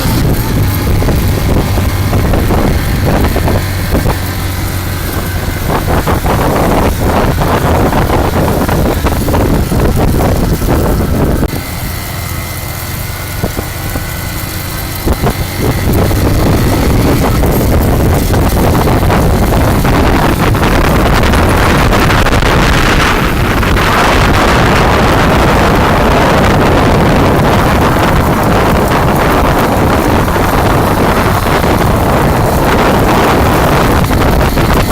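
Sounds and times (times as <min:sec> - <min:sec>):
motorcycle engine running: 0:00.0 - 0:34.9
wind buffeting microphone: 0:00.0 - 0:34.9.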